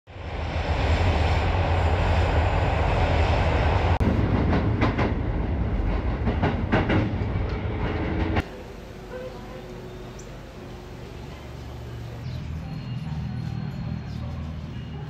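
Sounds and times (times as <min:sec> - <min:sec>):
train car rumbling: 0:00.1 - 0:15.0.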